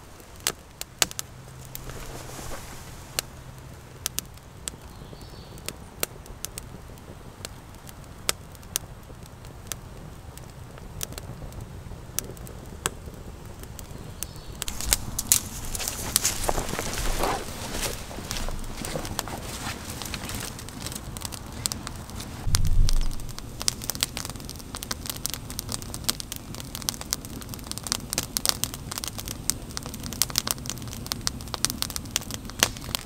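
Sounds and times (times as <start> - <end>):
campfire popping and crackling: 0.0 - 33.0.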